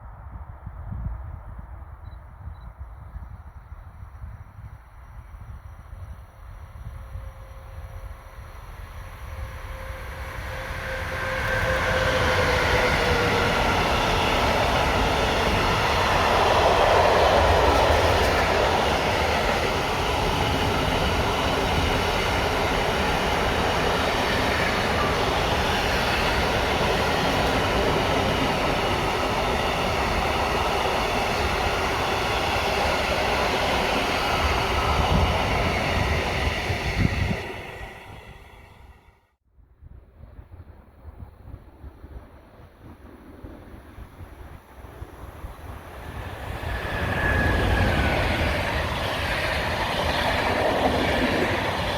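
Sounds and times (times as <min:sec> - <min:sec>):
train wheels on rail: 0:03.0 - 0:39.2, 0:45.1 - 0:51.9.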